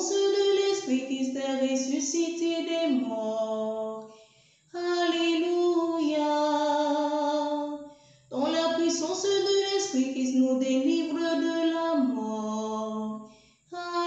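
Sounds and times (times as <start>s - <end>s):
woman singing unaccompanied: 0.0s - 4.1s, 4.8s - 14.0s.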